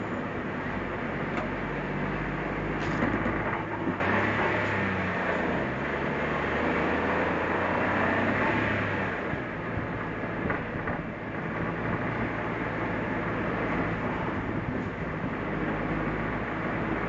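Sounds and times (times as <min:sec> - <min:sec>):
car engine hum: 0:00.0 - 0:17.0
tyre and road noise: 0:00.0 - 0:17.0.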